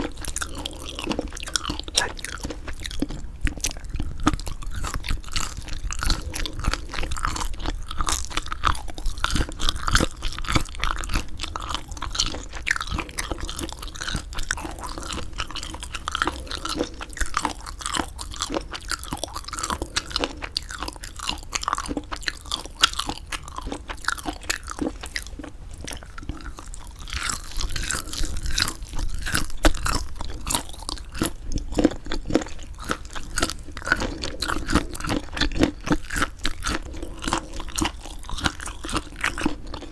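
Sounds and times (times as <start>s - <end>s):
chewing squid: 0.0s - 39.9s.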